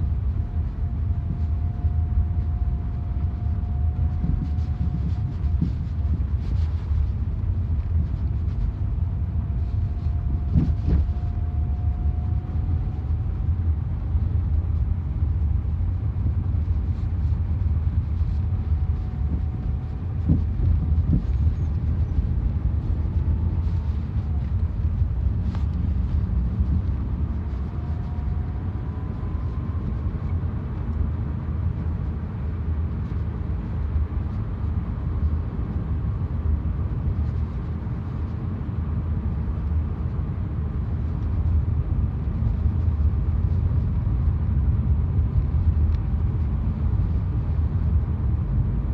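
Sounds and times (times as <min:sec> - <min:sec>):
car road rumble: 0:00.0 - 0:48.9.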